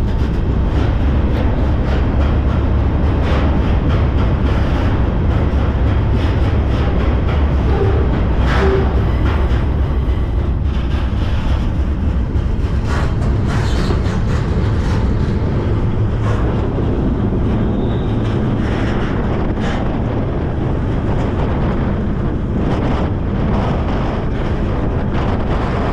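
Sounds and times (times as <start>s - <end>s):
train cars clanking and rattling: 0.0s - 25.9s
train wheels rumbling: 0.0s - 25.9s.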